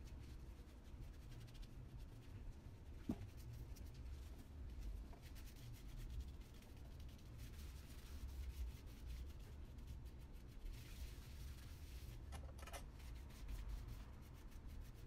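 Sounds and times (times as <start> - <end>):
brush rubbing through hair: 0.0 - 15.0.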